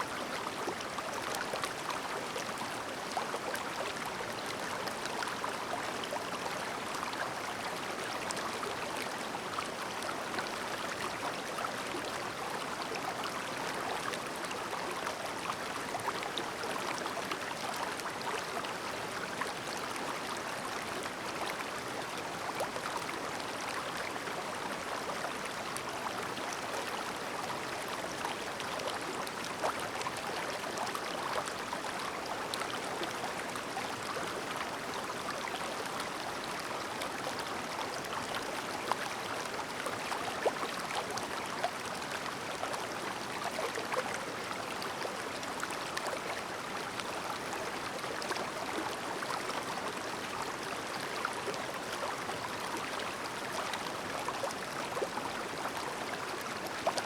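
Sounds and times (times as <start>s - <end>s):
mountain stream babbling: 0.0s - 57.0s.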